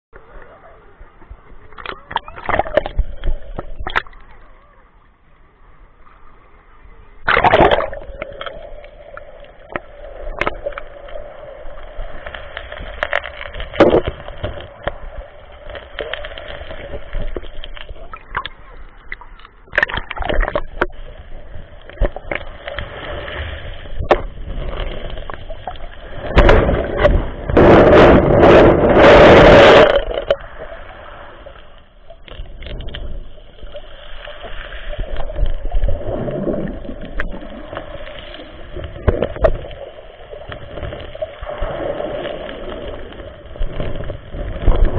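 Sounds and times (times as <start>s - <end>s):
water splashing: 0.2s - 5.0s, 5.9s - 44.9s
muffled underwater sloshing: 0.2s - 44.9s.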